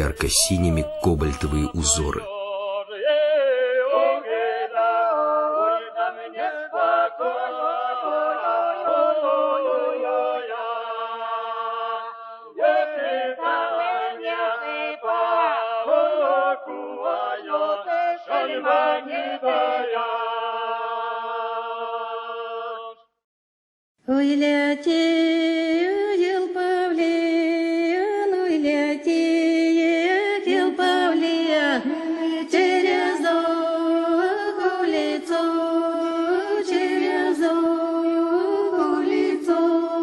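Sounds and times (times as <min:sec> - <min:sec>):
unaccompanied choir singing: 0:00.0 - 0:23.1, 0:24.2 - 0:40.0.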